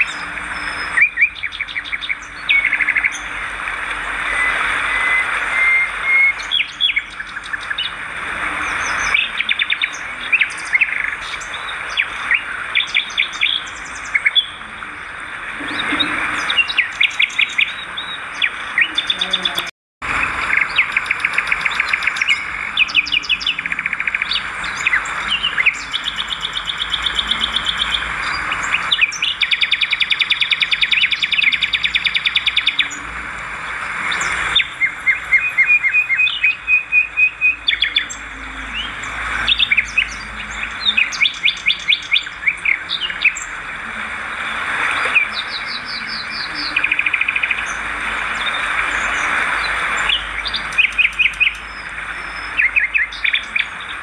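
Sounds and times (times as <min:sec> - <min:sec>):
swiftlets twittering: 0:00.0 - 0:48.6.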